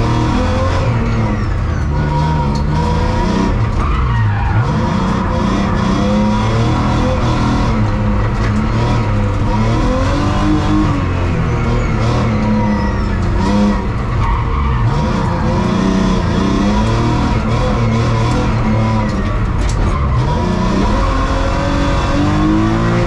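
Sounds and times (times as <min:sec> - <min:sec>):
tyre squeal: 0:00.0 - 0:05.3, 0:08.4 - 0:23.0
race car engine revving: 0:00.0 - 0:23.0.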